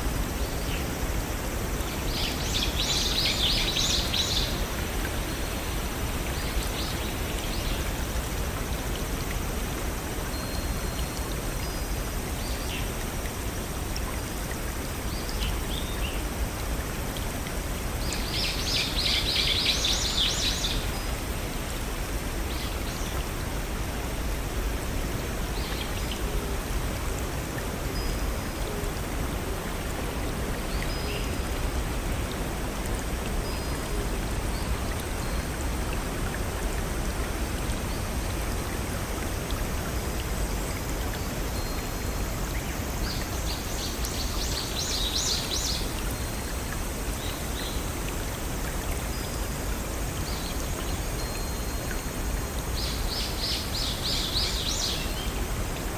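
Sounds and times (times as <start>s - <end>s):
forest stream and waterfall rushing: 0.0s - 55.9s.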